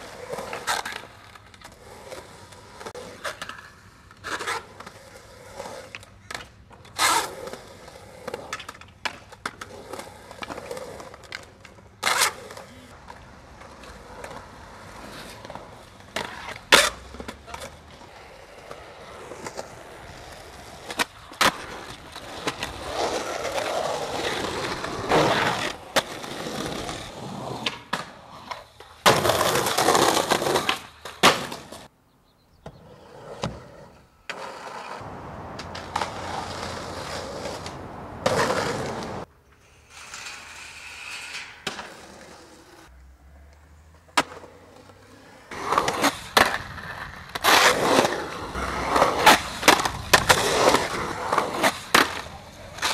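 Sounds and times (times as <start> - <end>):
skateboard clacks: 0.0 - 31.9, 34.2 - 39.3, 44.0 - 52.9
skateboard wheels rolling on concrete: 0.0 - 52.9.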